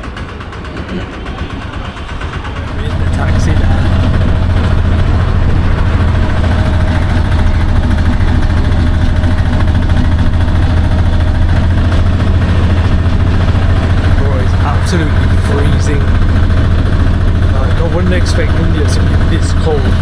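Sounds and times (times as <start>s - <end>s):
car engine humming: 0.0s - 20.0s.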